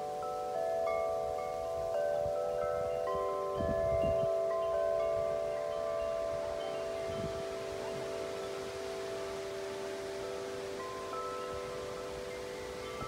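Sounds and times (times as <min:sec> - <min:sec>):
wind chime ringing: 0:00.0 - 0:13.0
wind rumbling on microphone: 0:00.0 - 0:13.0.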